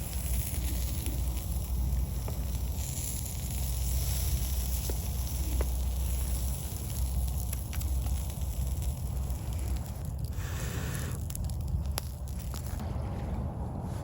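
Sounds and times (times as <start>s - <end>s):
campfire crackling and popping: 0.0s - 12.9s
steady low rumble: 0.0s - 14.0s.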